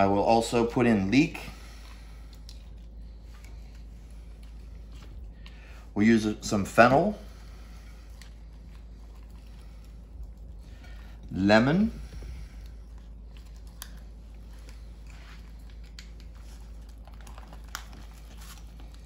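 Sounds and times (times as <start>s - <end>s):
soft wet handling noises: 0.0s - 19.0s
steady low hum: 0.0s - 19.0s.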